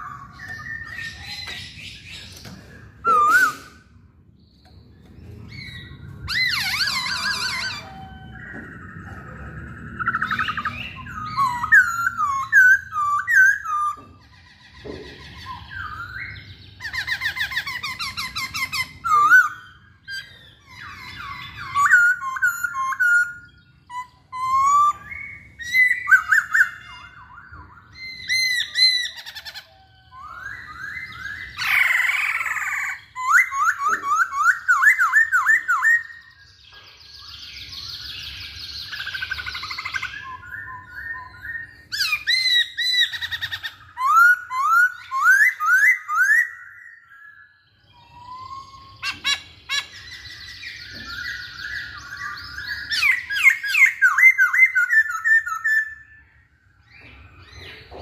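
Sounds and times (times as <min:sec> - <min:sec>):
bird singing whistled phrases: 0:00.0 - 0:14.1, 0:15.3 - 0:58.0.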